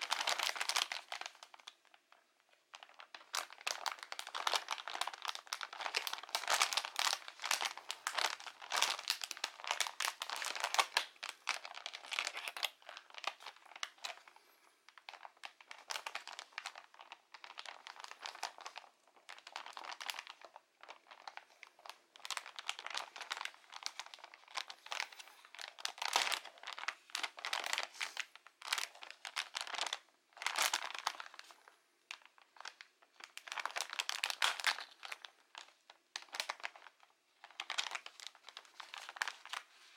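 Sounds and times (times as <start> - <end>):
plastic bag crinkling: 0.0 - 39.9.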